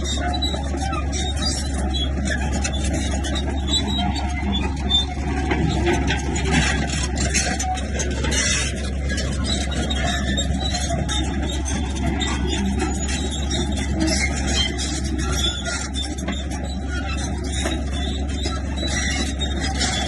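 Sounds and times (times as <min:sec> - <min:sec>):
bulldozer engine droning: 0:00.0 - 0:20.0
machine clattering and scraping: 0:00.0 - 0:20.0.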